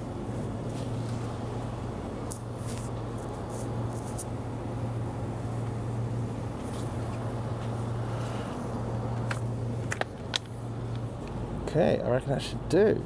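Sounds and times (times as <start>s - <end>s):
refrigerated cabinets humming: 0.0s - 13.0s.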